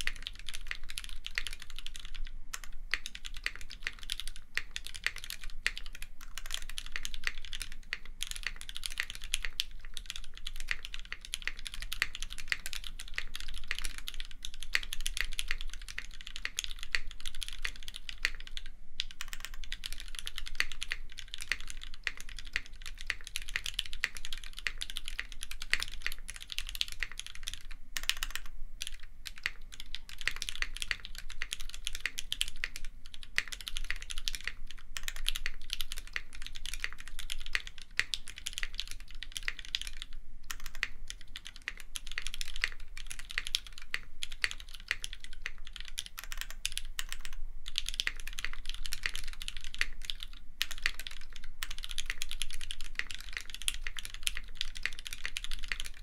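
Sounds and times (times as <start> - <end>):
fast mechanical keyboard typing: 0.0 - 56.0.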